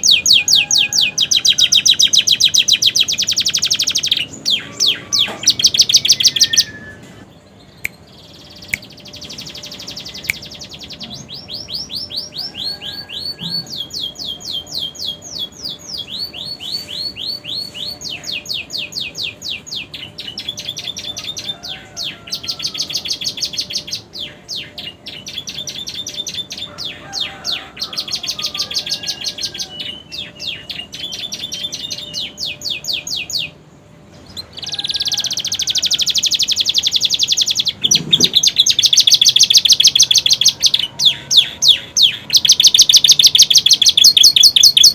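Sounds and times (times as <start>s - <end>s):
canary singing trilled rolls: 0.0s - 26.8s, 27.9s - 44.9s.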